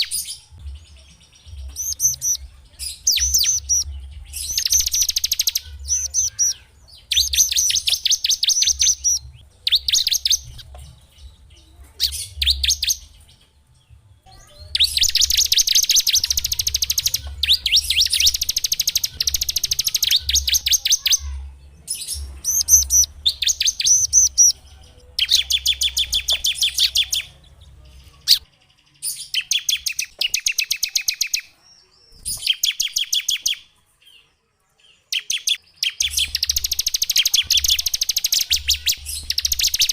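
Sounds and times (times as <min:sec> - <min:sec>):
songbirds singing fast trills: 0:00.0 - 0:39.9.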